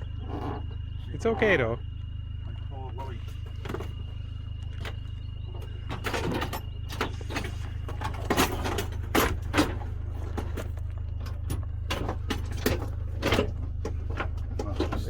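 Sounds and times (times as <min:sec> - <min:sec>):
engine humming: 0:00.0 - 0:15.0
knocks and clunks: 0:00.0 - 0:15.0.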